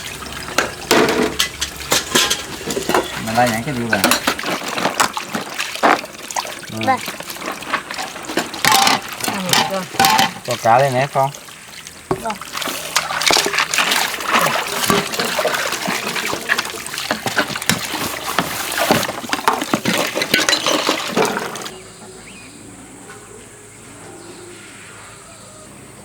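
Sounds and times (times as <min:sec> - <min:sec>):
water splashing and sloshing: 0:00.0 - 0:22.4.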